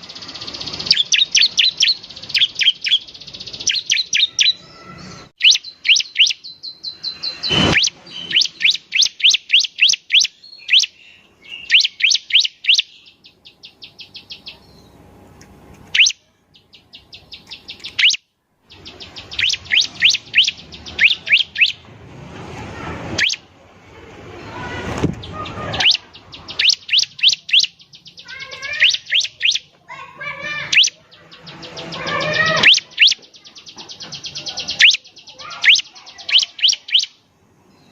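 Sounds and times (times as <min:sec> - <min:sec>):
bird chirping song: 0:00.0 - 0:15.2, 0:15.9 - 0:21.9, 0:23.2 - 0:23.5, 0:24.6 - 0:37.9.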